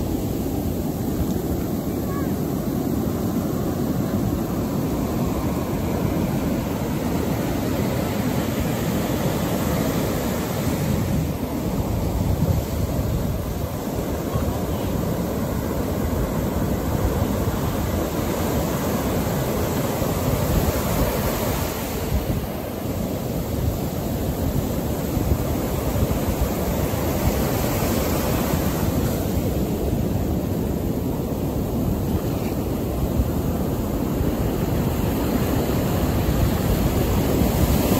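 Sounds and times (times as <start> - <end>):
ocean surf breaking on sand: 0.0 - 37.9.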